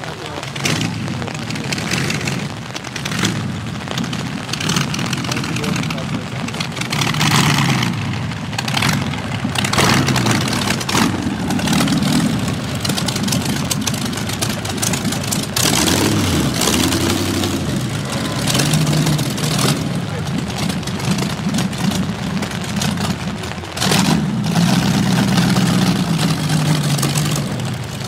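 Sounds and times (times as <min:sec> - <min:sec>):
car engine running at low speed: 0:00.0 - 0:28.0.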